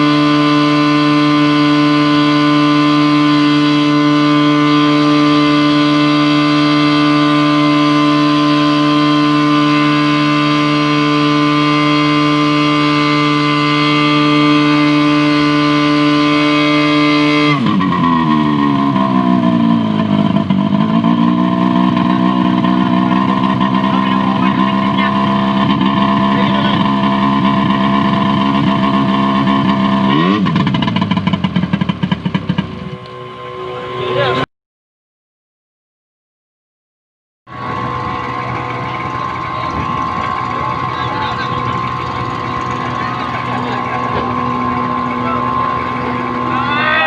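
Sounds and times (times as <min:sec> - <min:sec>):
two-stroke pump engine running: 0:00.0 - 0:34.4, 0:37.5 - 0:47.0.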